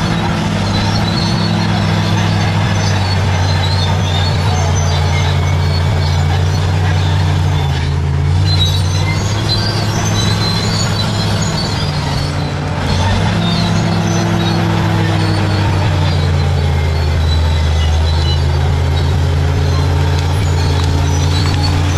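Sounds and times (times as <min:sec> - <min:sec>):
bulldozer diesel engine running: 0:00.0 - 0:21.9
high metallic squeaks: 0:00.0 - 0:21.9.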